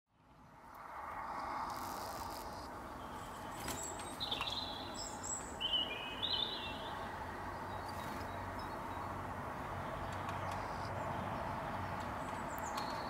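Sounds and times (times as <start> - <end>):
steady background noise: 0.1 - 13.0
songbirds chirping: 0.2 - 13.0.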